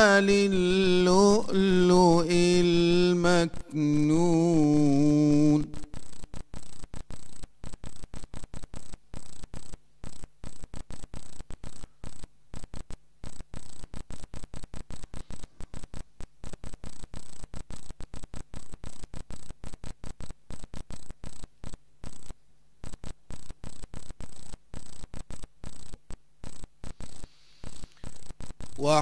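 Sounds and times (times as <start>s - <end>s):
electrical static and hum: 0.0s - 29.0s.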